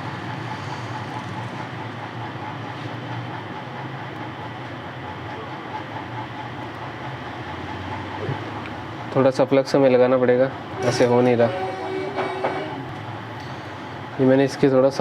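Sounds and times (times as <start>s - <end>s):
small fan running: 0.0s - 15.0s.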